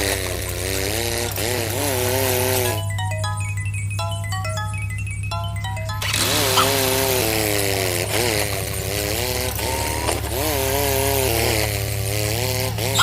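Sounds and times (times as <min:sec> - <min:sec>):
small motor buzzing: 0:00.0 - 0:13.0
steady low hum: 0:00.0 - 0:13.0.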